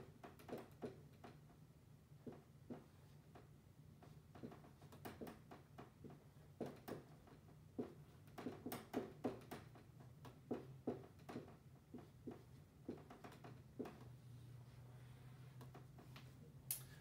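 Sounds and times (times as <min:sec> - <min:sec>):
marker writing on a whiteboard: 0:02.2 - 0:16.4.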